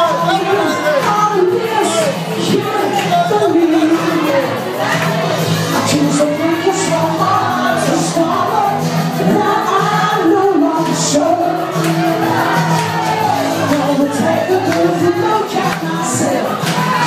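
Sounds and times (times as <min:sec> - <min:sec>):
loud pop music with singing: 0:00.0 - 0:17.0.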